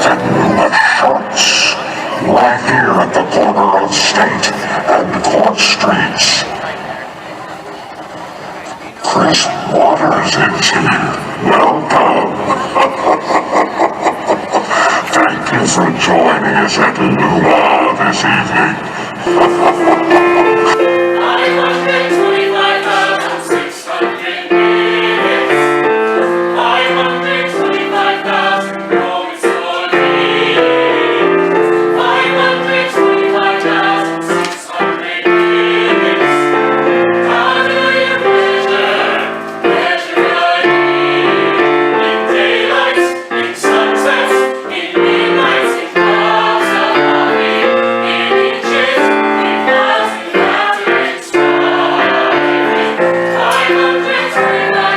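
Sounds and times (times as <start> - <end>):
choir singing in harmony: 0.0 - 8.2, 9.1 - 54.9.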